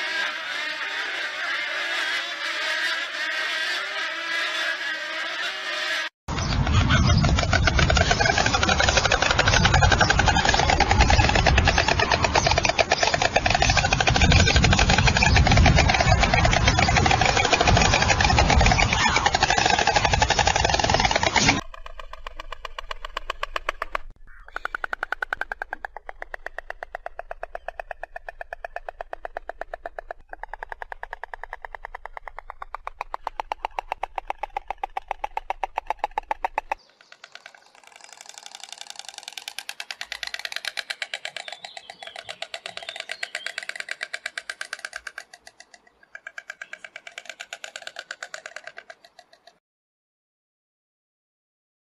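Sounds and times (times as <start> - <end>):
storks clattering bills: 0.0 - 49.6
hoarse rattle: 6.6 - 49.6.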